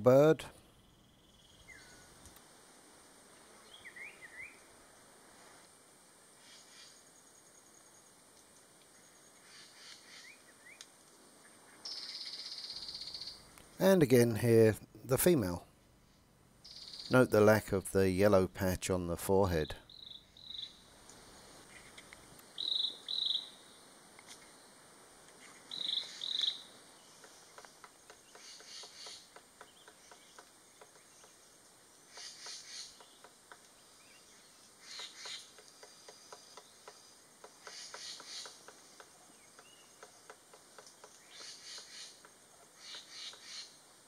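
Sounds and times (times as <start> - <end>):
thin high insect hum: 0.2 - 44.0.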